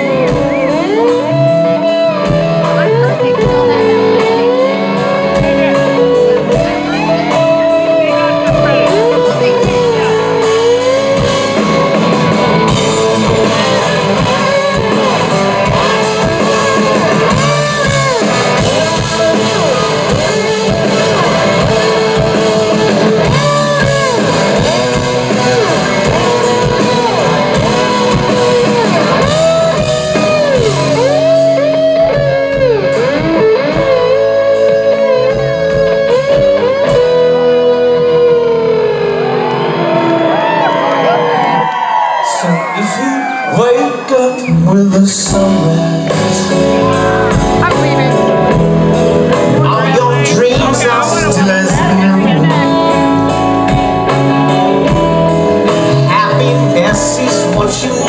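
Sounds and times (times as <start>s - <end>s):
bass guitar: 0.0s - 58.0s
electric guitar solo: 0.0s - 58.0s.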